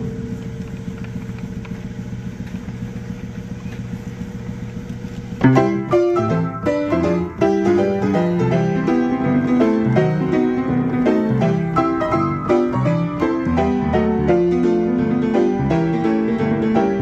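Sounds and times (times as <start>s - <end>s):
player piano playing: 0.0s - 17.0s.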